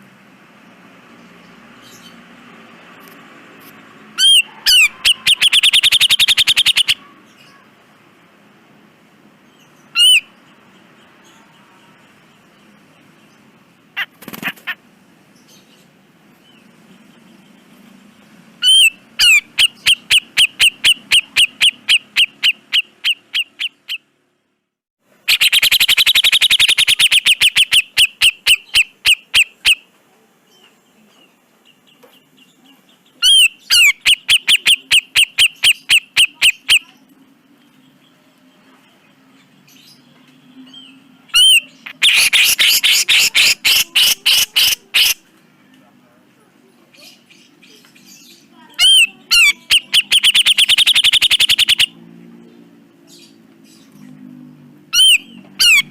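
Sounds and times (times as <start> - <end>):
bulbul singing rattling song: 4.2 - 7.6, 9.4 - 24.1, 25.2 - 29.9, 30.5 - 38.2, 39.0 - 45.2, 47.0 - 55.9.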